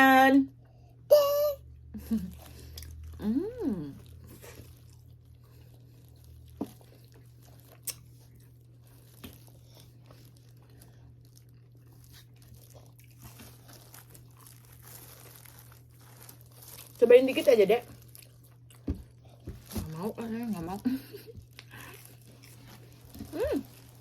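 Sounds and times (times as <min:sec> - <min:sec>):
chewing with small crunches: 0:02.0 - 0:24.0.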